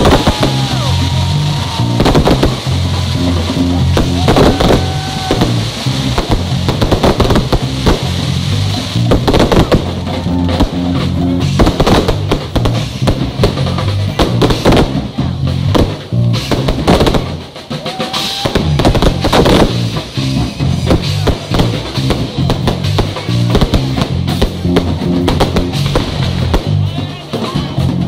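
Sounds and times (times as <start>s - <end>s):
fireworks banging: 0.0s - 27.8s
music with heavy drum beat: 0.0s - 28.0s.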